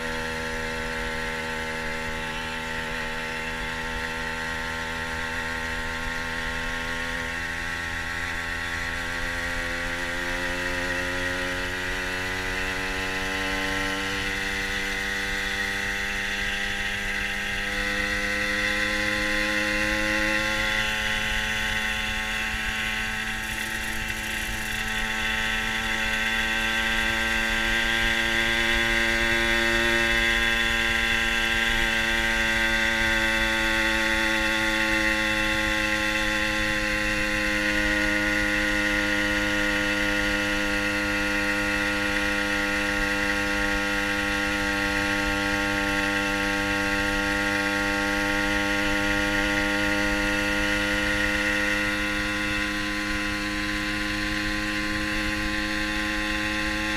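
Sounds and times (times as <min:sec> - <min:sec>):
moped engine running: 0:00.0 - 0:56.9.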